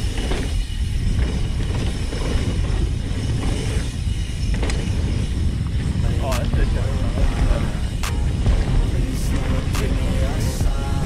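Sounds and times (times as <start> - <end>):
bike rattling: 0.0 - 11.0
wind buffeting microphone: 0.0 - 11.0.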